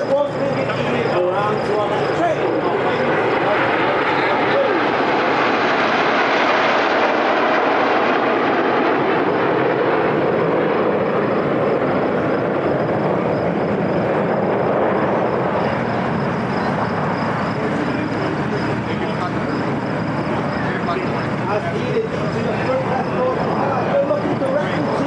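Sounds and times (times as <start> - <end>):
faint high whine: 0.0 - 25.0
jets roaring past: 0.0 - 25.0.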